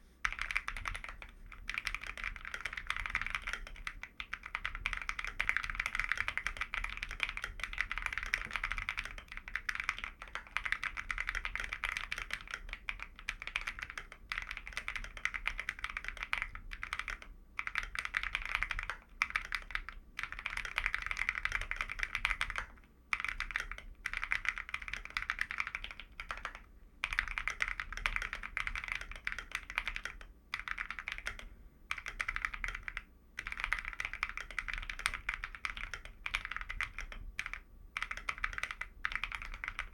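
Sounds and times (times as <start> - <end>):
fast mechanical keyboard typing: 0.2 - 39.9.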